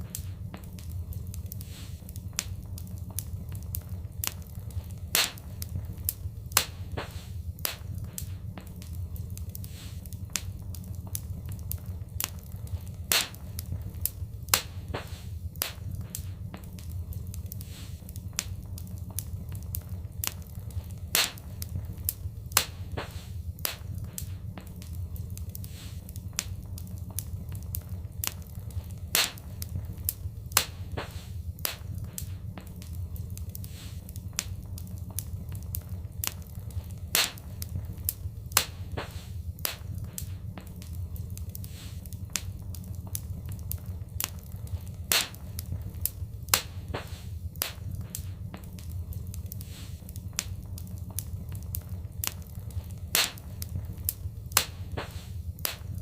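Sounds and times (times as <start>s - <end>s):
fire crackling and popping: 0.0s - 56.0s
low rumble: 0.0s - 56.0s.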